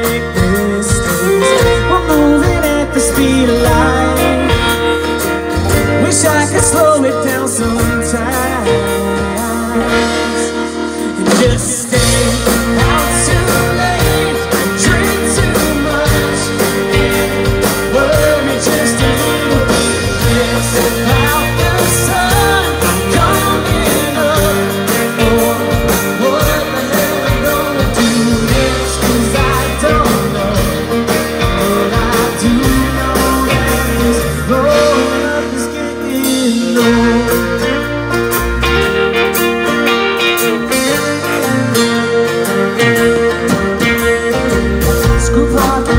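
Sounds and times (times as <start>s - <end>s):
man singing: 0.0s - 39.0s, 39.8s - 45.9s
acoustic guitar: 0.0s - 45.9s
drums: 0.0s - 45.9s
keyboard: 0.0s - 45.9s.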